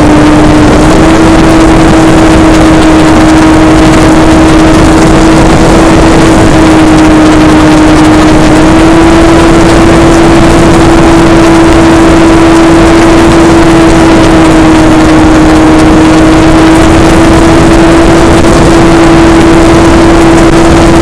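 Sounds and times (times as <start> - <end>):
model airplane motor and propeller: 0.0 - 21.0
wind rush: 0.0 - 21.0.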